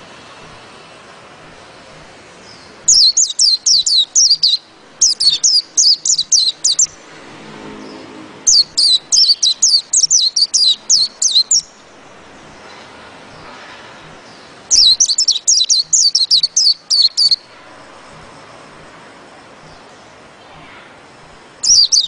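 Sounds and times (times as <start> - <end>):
bird singing rolling song: 1.6 - 22.0.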